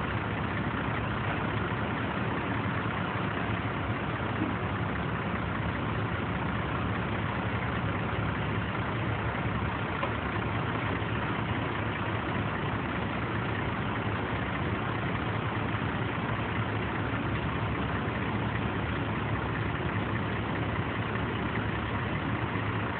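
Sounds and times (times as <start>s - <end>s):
diesel truck engine running: 0.0s - 22.9s.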